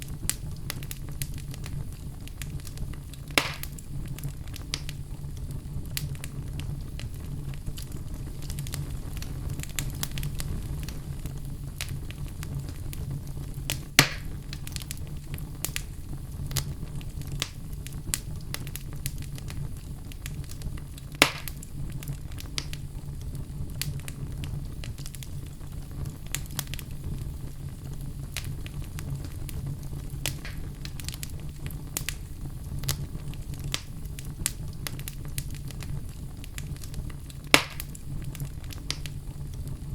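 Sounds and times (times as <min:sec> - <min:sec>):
fire burning rumble: 0:00.0 - 0:39.9
fire crackles and pops: 0:00.0 - 0:39.9.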